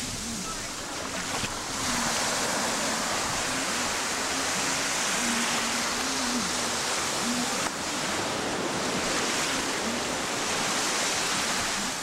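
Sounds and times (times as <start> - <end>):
waves washing onto beach: 0.0 - 12.0.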